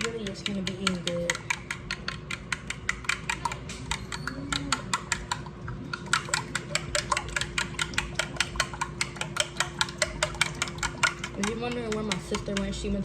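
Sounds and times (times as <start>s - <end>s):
fork clicking against bowl: 0.0s - 12.8s.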